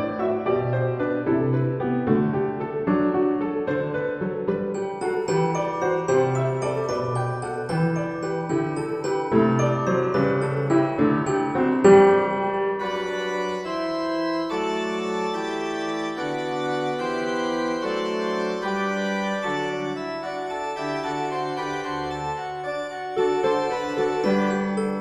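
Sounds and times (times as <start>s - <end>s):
organ-like keyboard chords: 4.5s - 25.0s.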